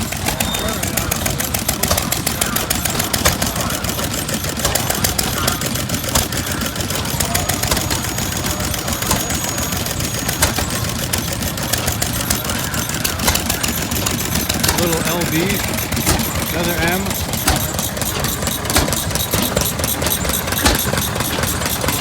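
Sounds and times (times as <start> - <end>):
old engines chattering: 0.0 - 22.0.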